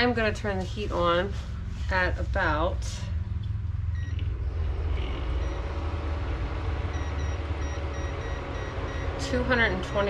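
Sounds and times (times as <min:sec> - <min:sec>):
cooktop hum and fan whir: 0:00.0 - 0:10.0.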